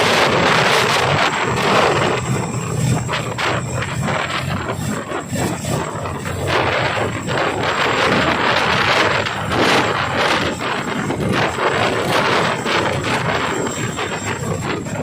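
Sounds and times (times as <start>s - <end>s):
helicopter rotor and turbine noise: 0.0s - 15.0s.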